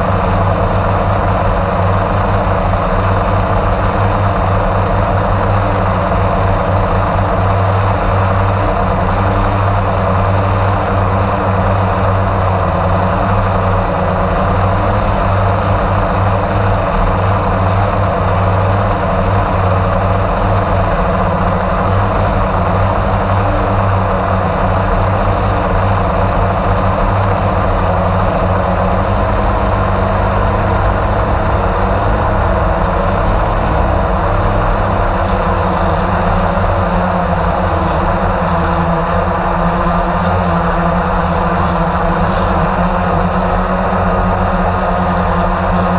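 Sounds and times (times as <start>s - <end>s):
drone motors humming: 0.0s - 45.9s.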